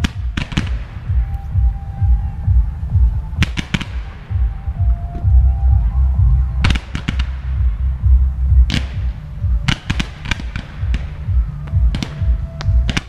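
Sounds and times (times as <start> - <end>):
fireworks bangs and crackles: 0.0 - 5.3, 6.6 - 13.0
music with heavy bass beat: 0.0 - 13.0.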